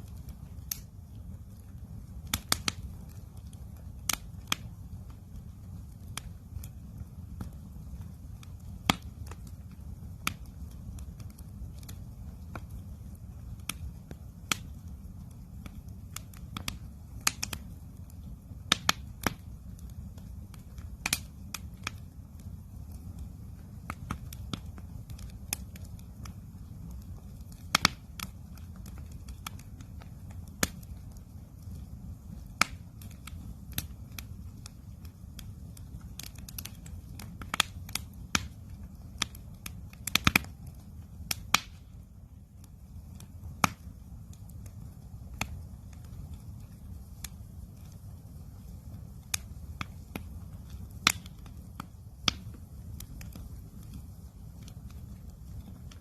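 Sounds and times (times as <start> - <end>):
campfire crackling and popping: 0.0 - 56.0
low rumble of burning fire: 0.0 - 56.0.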